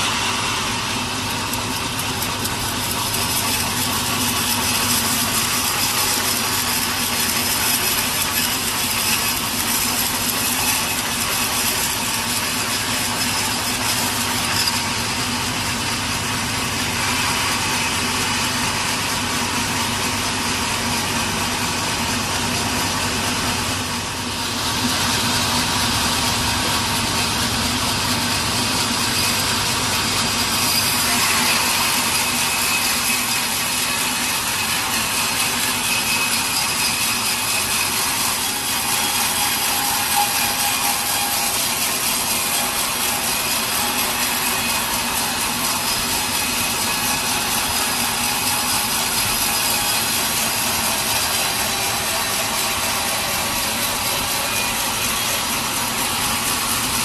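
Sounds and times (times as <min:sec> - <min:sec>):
machine motor hum: 0:00.0 - 0:32.7, 0:37.7 - 0:57.0
saw cutting through log: 0:00.0 - 0:57.0.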